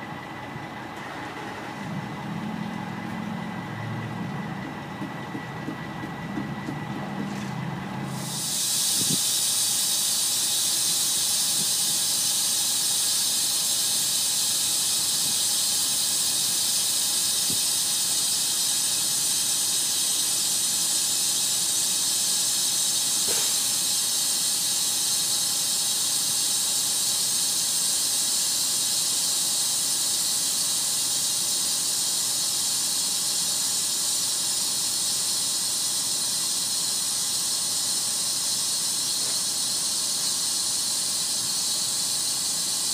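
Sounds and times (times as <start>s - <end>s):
compressed air hissing: 6.4s - 42.9s.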